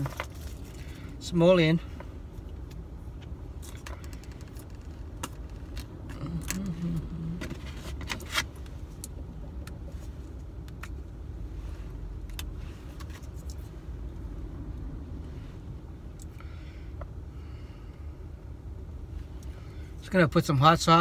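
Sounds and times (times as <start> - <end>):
low rumble inside a car: 0.0 - 21.0.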